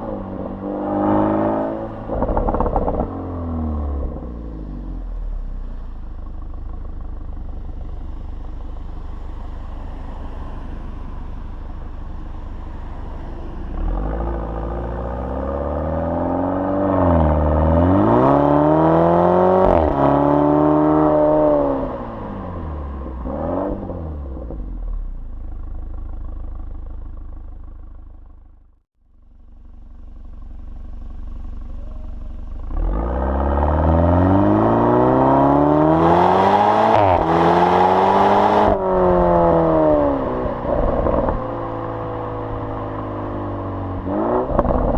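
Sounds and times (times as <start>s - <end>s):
car exhaust droning and accelerating: 0.0s - 44.9s.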